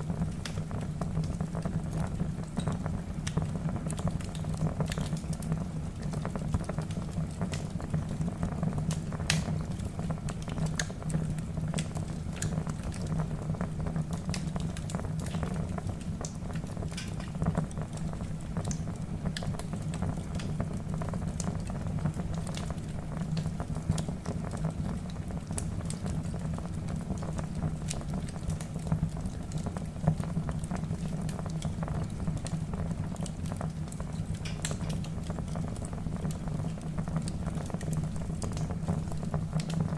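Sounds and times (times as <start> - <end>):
fire flames rumbling: 0.0 - 39.9
logs crackling and popping: 0.0 - 39.9.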